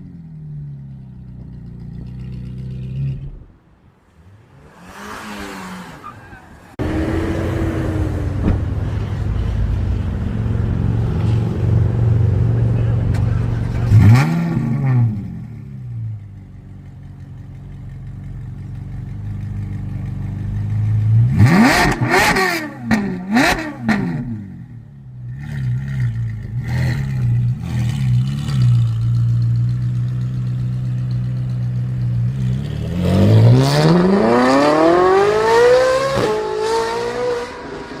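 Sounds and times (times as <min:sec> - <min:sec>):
sports car engine idling and revving: 0:00.0 - 0:38.0.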